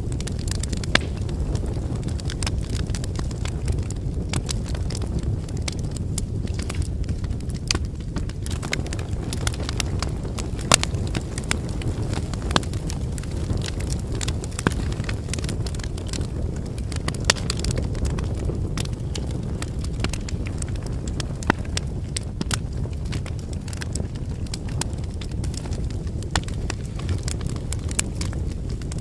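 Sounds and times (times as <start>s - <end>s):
firewood crackling and snapping: 0.0s - 29.0s
low rush of flames: 0.0s - 29.0s.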